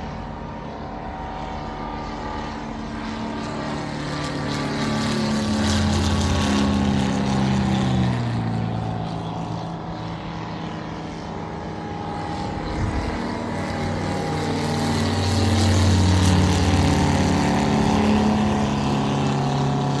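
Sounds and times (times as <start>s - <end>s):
propeller airplane engine droning: 0.0s - 20.0s.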